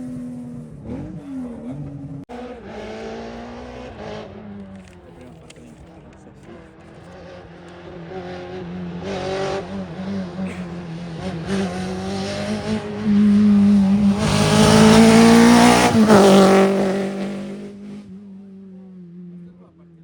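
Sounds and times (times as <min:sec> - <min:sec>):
rally car engine revving past: 0:00.0 - 0:05.5, 0:06.4 - 0:19.6.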